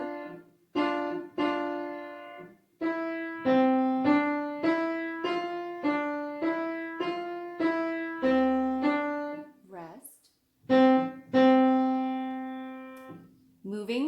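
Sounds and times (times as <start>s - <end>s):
piano melody single notes: 0.0s - 9.5s, 10.7s - 13.4s.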